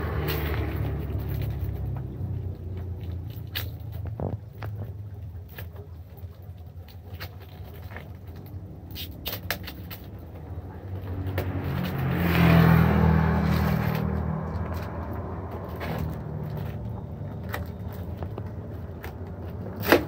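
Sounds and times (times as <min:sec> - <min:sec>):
vehicle engine passing: 0:00.0 - 0:05.9, 0:08.2 - 0:20.0.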